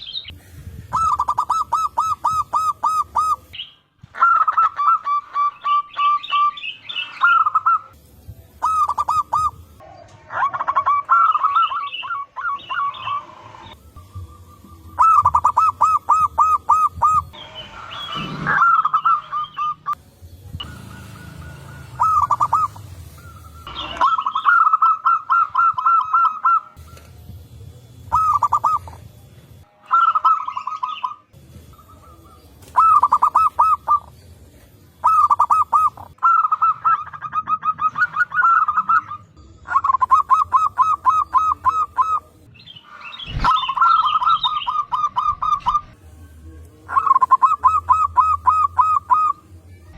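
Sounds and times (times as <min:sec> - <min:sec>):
doves cooing: 0:00.1 - 0:08.0, 0:08.6 - 0:20.0, 0:20.6 - 0:27.3, 0:27.9 - 0:29.1, 0:29.9 - 0:34.3, 0:35.0 - 0:42.4, 0:46.9 - 0:49.5.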